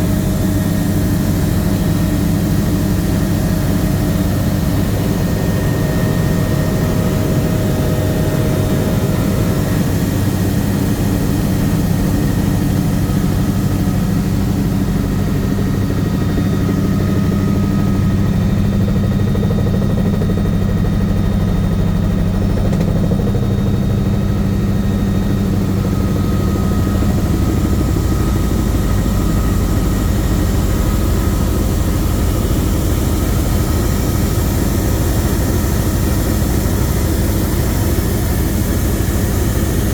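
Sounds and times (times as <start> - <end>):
faint steady whines: 0.0 - 39.9
helicopter rotor and engine drone: 0.0 - 39.9.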